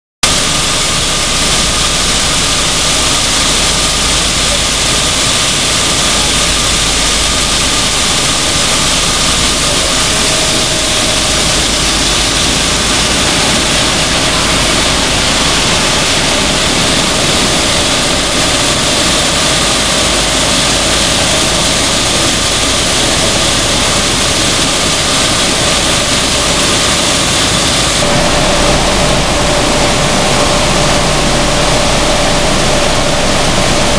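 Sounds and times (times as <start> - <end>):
seed hulling machine whirring: 0.2 - 33.9.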